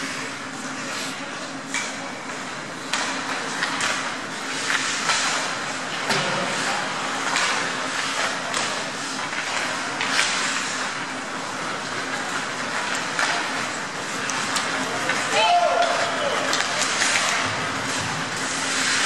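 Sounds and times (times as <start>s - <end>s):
hockey sticks and puck clacking: 1.7s - 19.0s
skate blades scraping ice: 3.4s - 19.0s.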